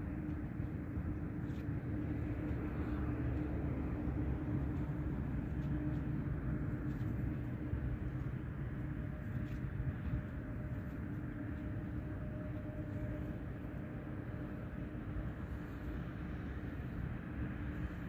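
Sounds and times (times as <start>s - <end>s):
jet engines rumbling: 0.0s - 18.0s
steady hum: 0.0s - 18.0s.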